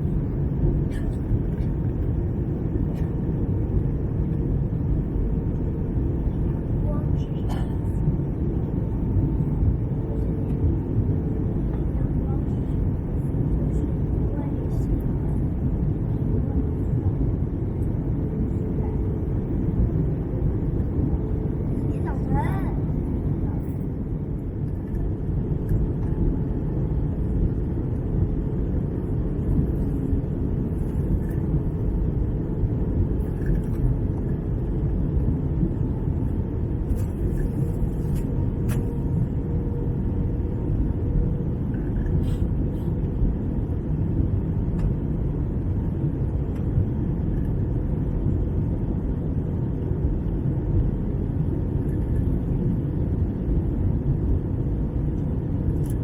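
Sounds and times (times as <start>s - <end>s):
aircraft cabin engine rumble: 0.0s - 56.0s.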